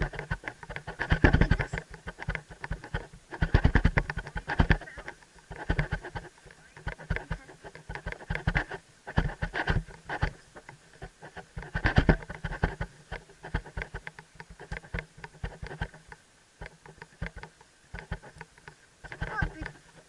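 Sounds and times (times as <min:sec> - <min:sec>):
camera rattling against helmet: 0:00.0 - 0:20.0.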